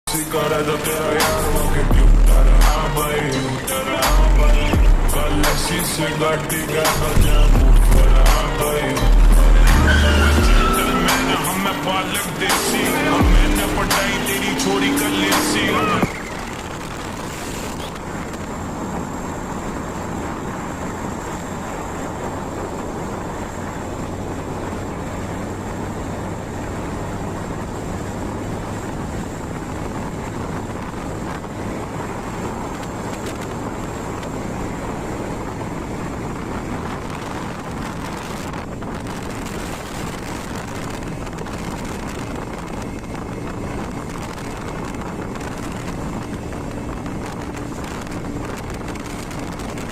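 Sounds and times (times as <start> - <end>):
motorcycle running: 0.0 - 49.9
wind noise on microphone: 0.1 - 49.9.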